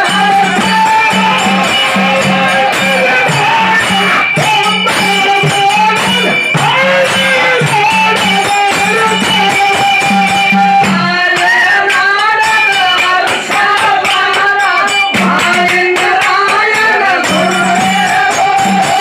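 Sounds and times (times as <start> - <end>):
jingling cymbals: 0.0 - 19.0
man singing: 0.0 - 19.0
rhythmic drum strokes: 0.0 - 19.0
steady held tones: 0.0 - 19.0.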